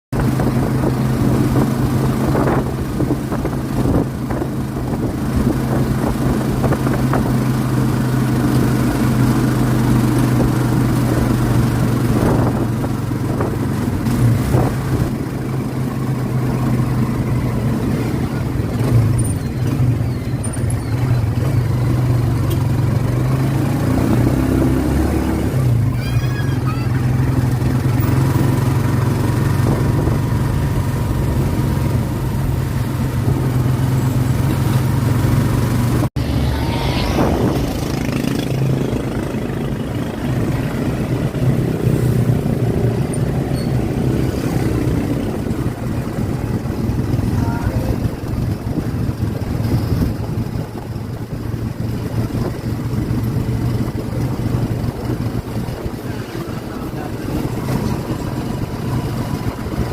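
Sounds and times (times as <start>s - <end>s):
engine running: 0.1s - 59.9s.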